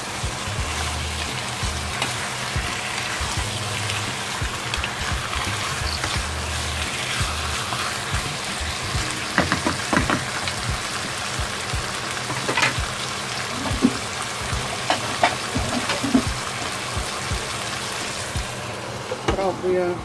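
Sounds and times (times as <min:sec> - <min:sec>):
meat sizzling in a frying pan: 0:00.0 - 0:19.8.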